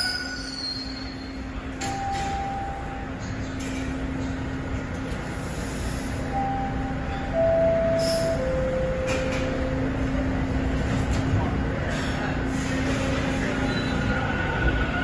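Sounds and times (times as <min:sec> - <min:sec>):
train electrical hum: 0:00.0 - 0:15.0.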